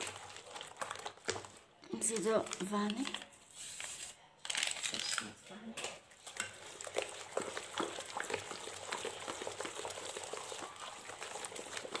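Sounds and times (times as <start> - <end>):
batter squelching in a clay bowl: 0.0 - 12.0.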